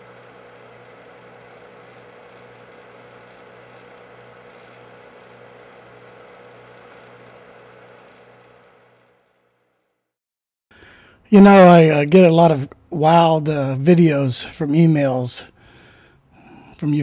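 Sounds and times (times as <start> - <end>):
electrical hum: 0.0 - 9.9, 10.7 - 17.0.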